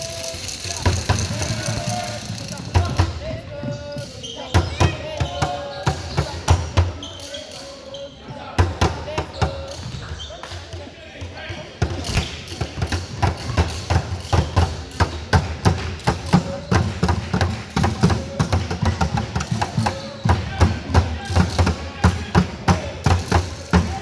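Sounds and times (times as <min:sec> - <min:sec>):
voices in background: 0:00.0 - 0:24.0.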